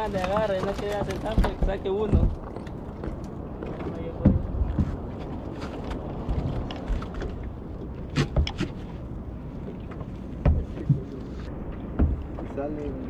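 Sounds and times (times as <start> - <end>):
sharp knocks on boat: 0.0 - 7.3, 8.1 - 9.0, 9.9 - 12.7
wind and water rumble: 0.0 - 13.0.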